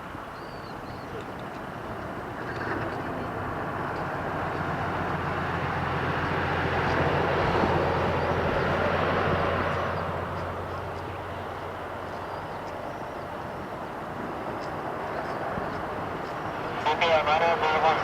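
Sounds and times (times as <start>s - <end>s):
jet airliner engines approaching: 0.0s - 18.0s.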